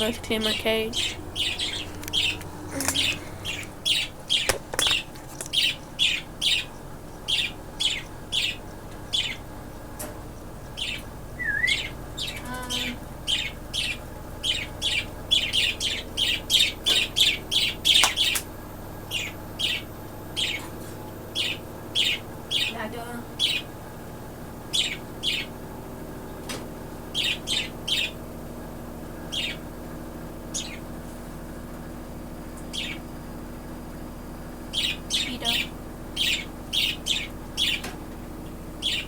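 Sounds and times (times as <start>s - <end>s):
budgerigar chirping: 0.0s - 9.7s, 10.4s - 23.8s, 24.6s - 25.6s, 27.1s - 28.3s, 29.1s - 31.0s, 32.6s - 33.2s, 34.6s - 37.9s, 38.7s - 39.0s.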